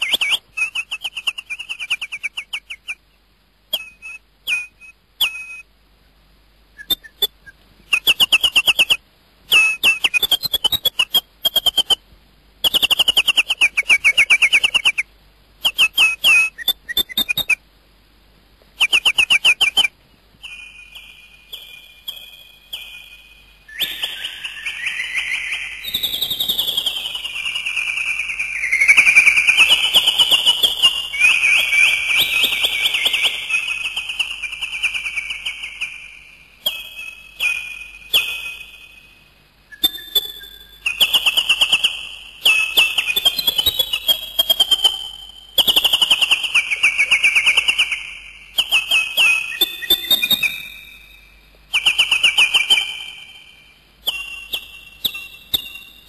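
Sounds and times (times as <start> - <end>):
high-pitched bird calls: 0.0 - 5.7, 6.8 - 12.0, 12.6 - 17.6, 18.8 - 56.0.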